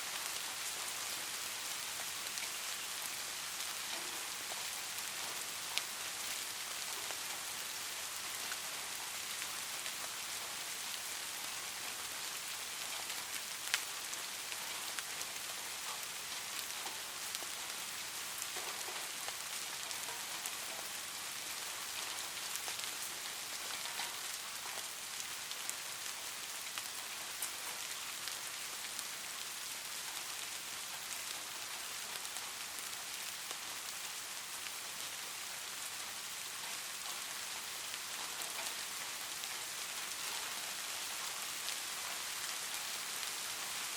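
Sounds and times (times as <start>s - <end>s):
light rain falling: 0.0s - 43.9s.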